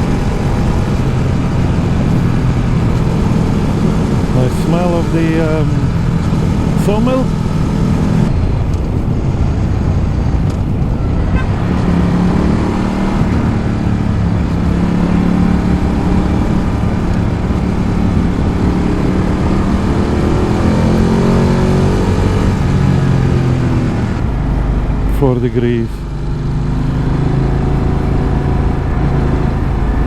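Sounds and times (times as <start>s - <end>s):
motorcycle engine and exhaust: 0.0s - 30.0s
steady rushing noise: 0.0s - 30.0s.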